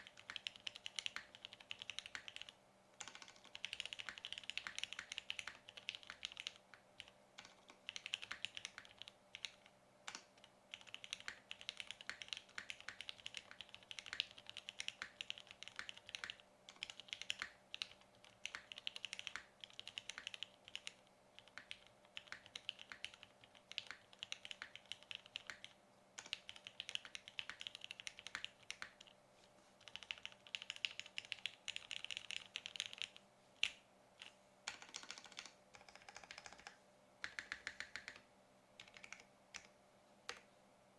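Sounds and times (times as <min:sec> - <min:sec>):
mechanical keyboard typing: 0:00.0 - 0:29.1, 0:29.8 - 0:38.2, 0:38.8 - 0:39.7.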